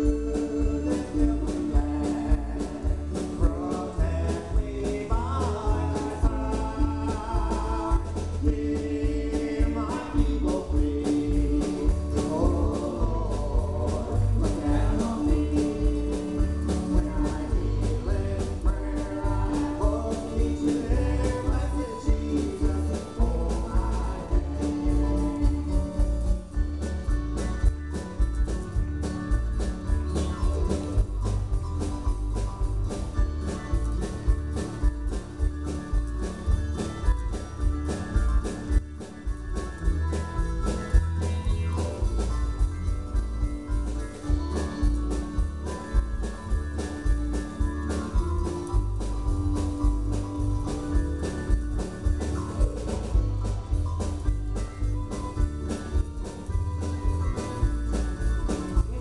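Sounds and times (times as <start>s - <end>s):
country gospel band playing: 0.0s - 59.0s.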